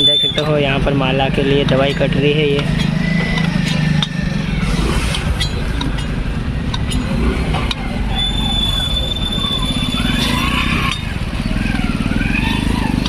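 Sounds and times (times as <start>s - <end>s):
engine hum: 0.0s - 13.0s
motor traffic: 0.0s - 13.0s
motorcycle engines running: 0.0s - 13.0s.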